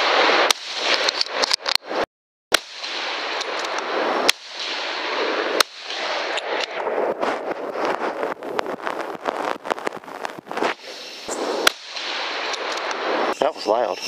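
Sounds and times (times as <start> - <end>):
rifle shots: 0.0 - 10.0, 10.6 - 13.4
steady rushing noise: 2.6 - 14.0.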